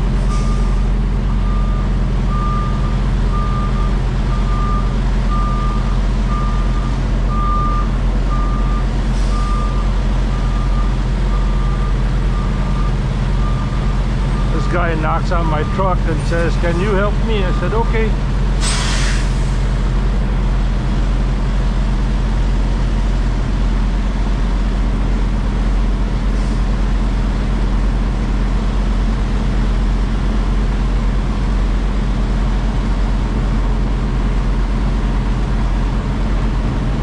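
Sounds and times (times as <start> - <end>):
truck diesel engine idling: 0.0 - 37.0.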